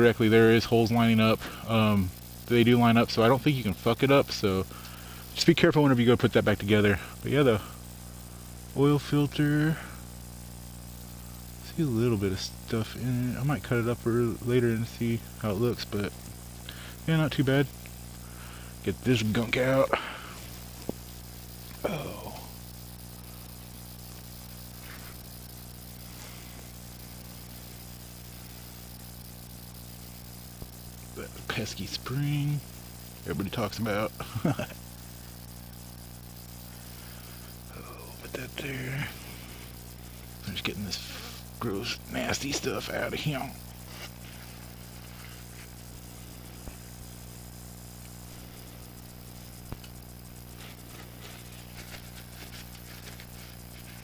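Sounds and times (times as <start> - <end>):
low mechanical motor hum: 0.0 - 54.0.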